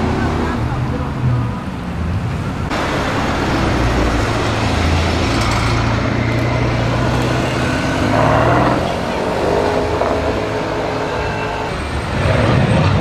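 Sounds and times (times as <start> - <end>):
car engine droning: 0.0 - 13.0
road noise: 0.0 - 13.0.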